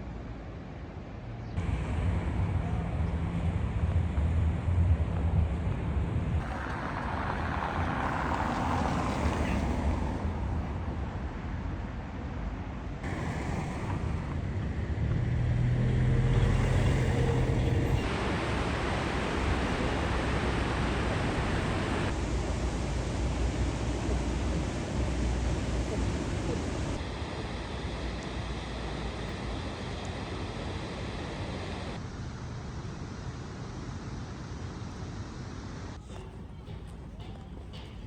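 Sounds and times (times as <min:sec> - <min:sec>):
traffic rumble: 0:00.0 - 0:38.0
vehicle engine humming: 0:01.3 - 0:32.1, 0:36.0 - 0:38.0.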